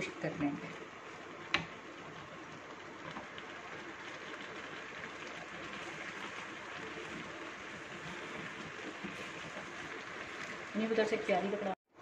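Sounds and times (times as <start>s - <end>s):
syrup bubbling and sizzling in pan: 0.0s - 12.0s.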